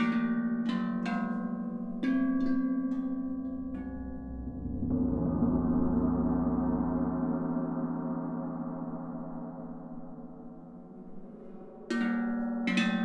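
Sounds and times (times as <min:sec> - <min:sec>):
gong-like metal percussion ringing: 0:00.0 - 0:13.0.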